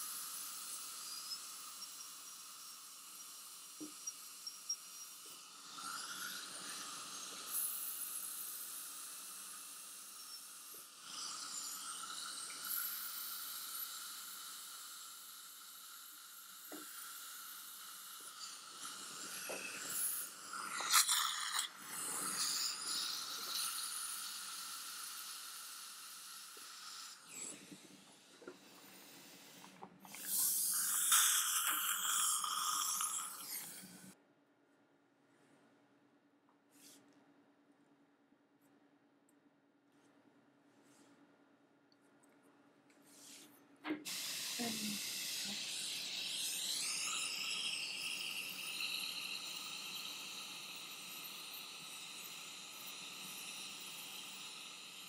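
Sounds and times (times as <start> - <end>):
dental drill hiss and whine: 0.0 - 34.2, 43.1 - 55.0.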